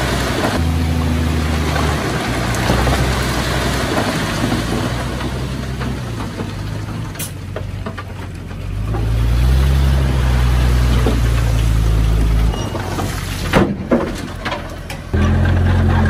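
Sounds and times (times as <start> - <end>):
heavy diesel engine running: 0.0 - 13.4.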